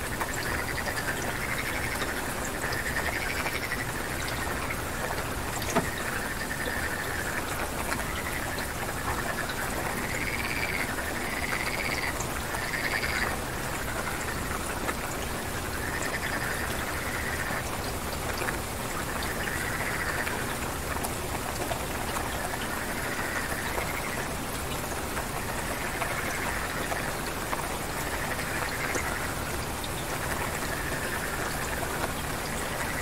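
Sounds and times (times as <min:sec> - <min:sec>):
falling rain hiss: 0:00.0 - 0:33.0
frogs trilling: 0:00.0 - 0:33.0.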